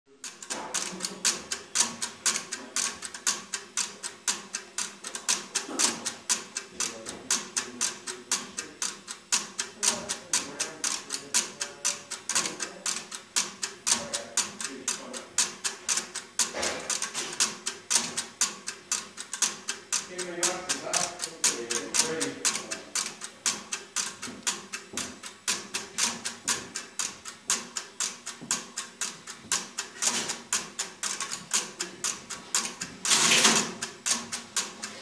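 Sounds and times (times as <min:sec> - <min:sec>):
telephone exchange relays clicking: 0:00.1 - 0:35.0.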